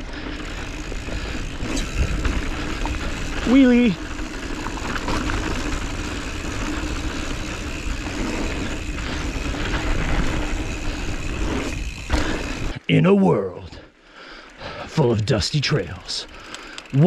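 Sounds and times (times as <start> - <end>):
bike tyre noise on dirt: 0.0 - 12.8, 14.6 - 17.0.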